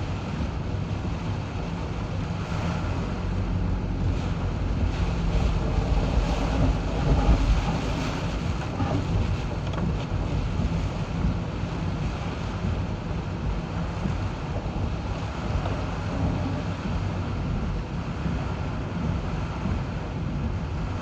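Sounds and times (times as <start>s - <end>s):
rain: 0.0s - 21.0s
wet road noise: 0.0s - 21.0s
wind: 0.0s - 21.0s.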